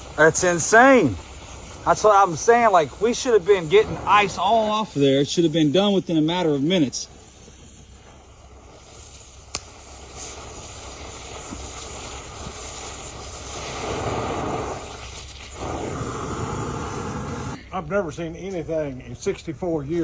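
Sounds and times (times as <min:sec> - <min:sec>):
cutting torch flame hissing: 0:00.0 - 0:20.0.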